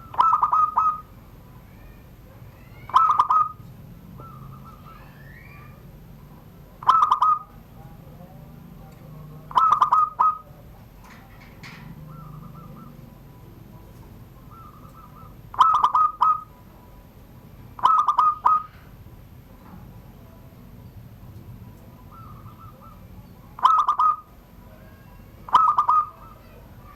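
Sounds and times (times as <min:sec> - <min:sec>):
dove cooing: 0:00.0 - 0:01.4, 0:02.6 - 0:16.7, 0:17.7 - 0:19.1, 0:21.6 - 0:26.9.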